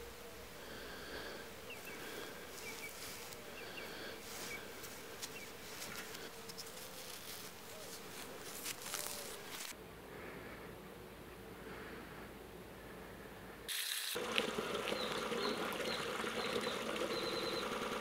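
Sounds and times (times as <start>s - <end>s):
small birds chirping faintly: 0.0s - 13.6s, 14.2s - 18.0s.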